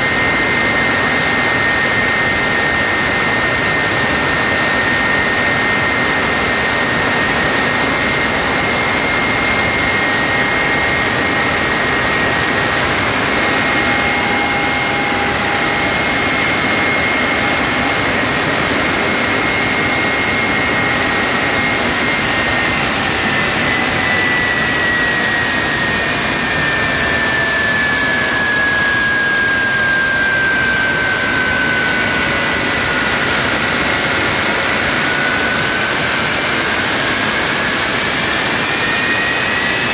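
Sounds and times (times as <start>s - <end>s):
jet engine roar with high whine: 0.0s - 39.9s.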